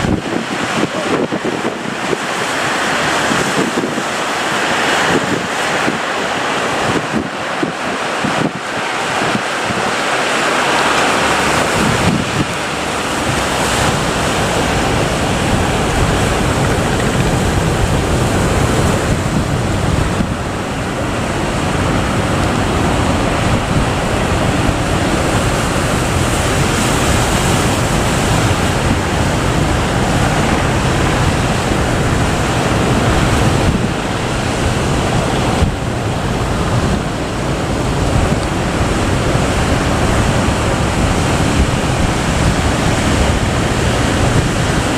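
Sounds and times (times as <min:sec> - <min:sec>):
ocean waves breaking: 0:00.0 - 0:44.9
wind buffeting microphone: 0:00.0 - 0:44.9.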